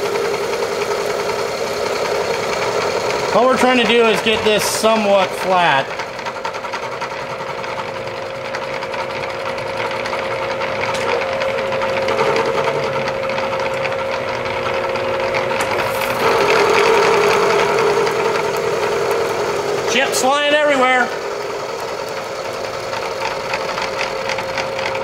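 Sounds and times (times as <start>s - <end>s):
milling spindle whine: 0.0s - 25.0s
cutter rattling: 0.1s - 25.0s.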